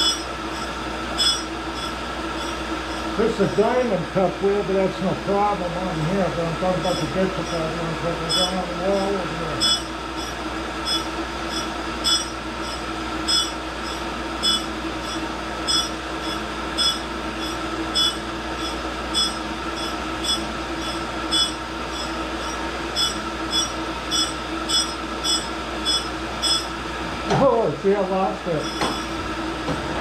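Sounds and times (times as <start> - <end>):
grinder humming and whining: 0.0 - 30.0.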